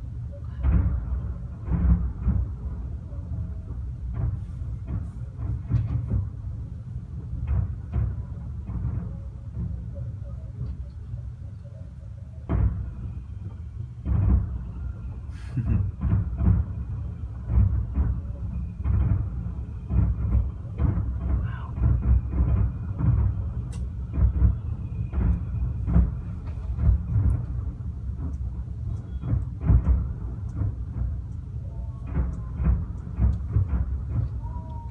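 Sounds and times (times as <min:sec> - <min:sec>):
fireworks booming: 0:00.0 - 0:11.3, 0:12.4 - 0:34.9.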